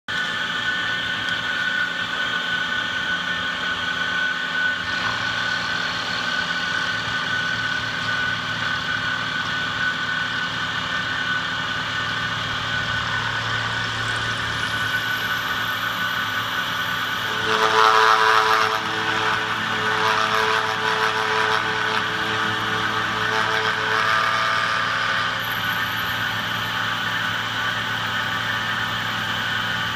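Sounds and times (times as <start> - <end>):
cutter machining metal: 0.1 - 29.9
milling spindle whine: 0.1 - 29.9.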